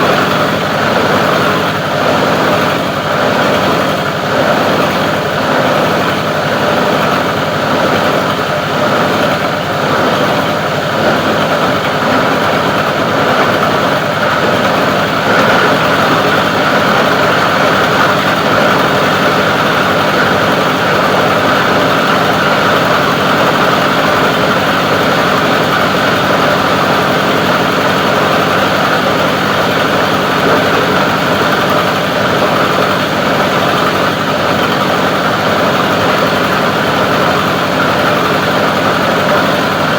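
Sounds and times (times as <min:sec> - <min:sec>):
plastic grinding machine running: 0:00.0 - 0:39.9.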